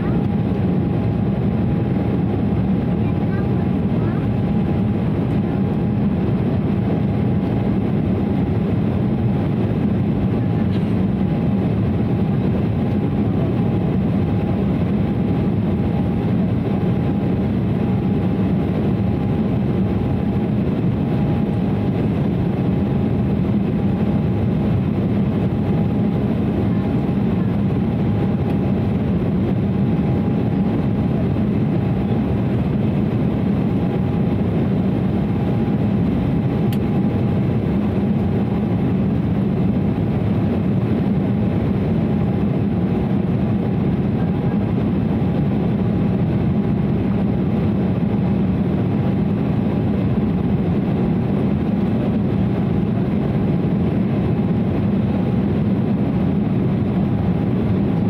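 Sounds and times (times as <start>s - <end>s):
aircraft cabin roar: 0.0s - 58.0s.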